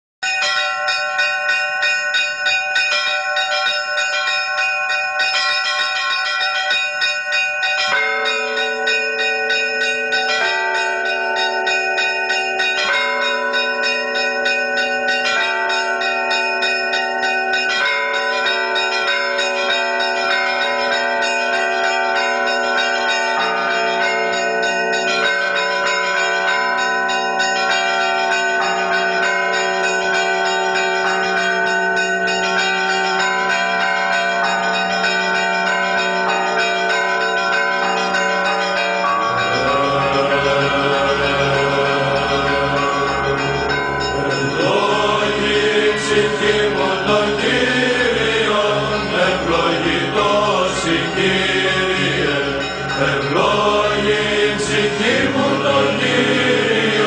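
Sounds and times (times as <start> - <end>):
church bells ringing: 0.2 - 57.0
deeper bell: 0.2 - 57.0.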